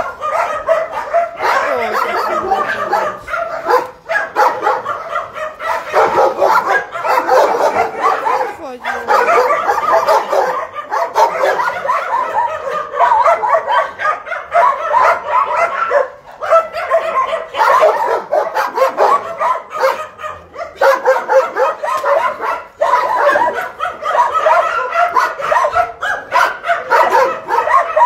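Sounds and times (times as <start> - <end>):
many dogs barking and yipping: 0.0 - 28.0.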